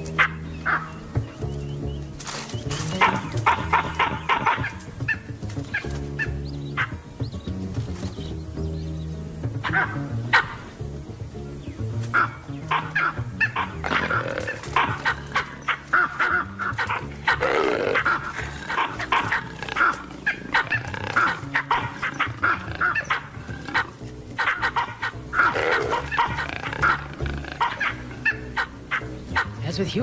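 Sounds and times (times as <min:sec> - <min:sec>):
baboons barking and screaming: 0:00.0 - 0:29.8
low background music: 0:00.0 - 0:30.0.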